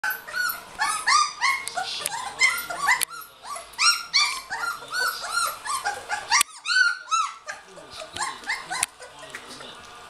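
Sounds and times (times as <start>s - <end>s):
puppies whining and yipping: 0.0s - 9.6s.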